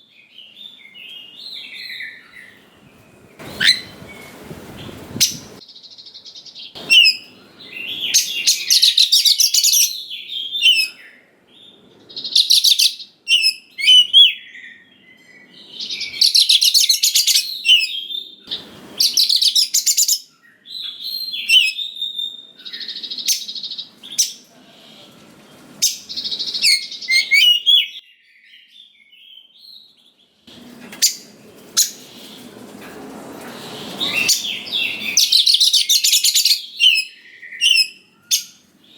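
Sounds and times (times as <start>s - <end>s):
bird singing: 0.0s - 4.3s, 5.2s - 24.5s, 25.8s - 30.4s, 33.7s - 38.9s.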